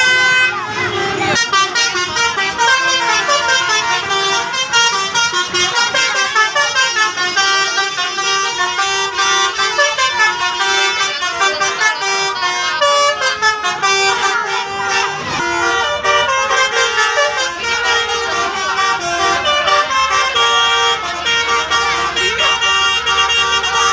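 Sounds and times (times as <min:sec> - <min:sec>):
multi-tone bus horns playing notes: 0:00.0 - 0:23.9.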